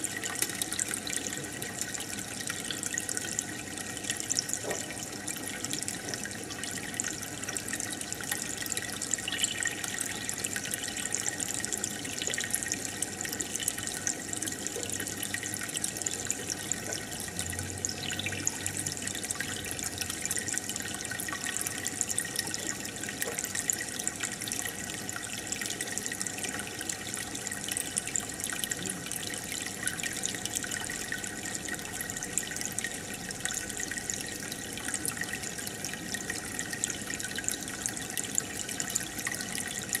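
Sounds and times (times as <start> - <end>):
aquarium water bubbling: 0.0 - 40.0.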